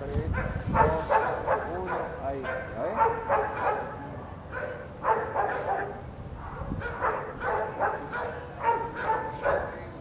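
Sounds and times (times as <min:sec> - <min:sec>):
dog barking: 0:00.3 - 0:09.9.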